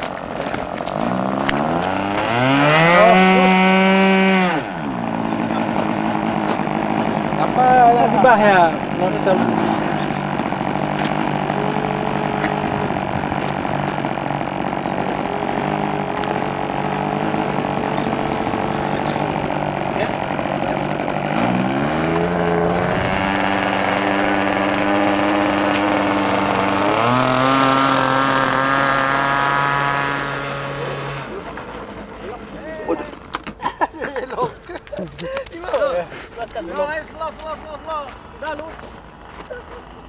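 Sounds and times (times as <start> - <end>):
model airplane engine: 0.0 - 33.6.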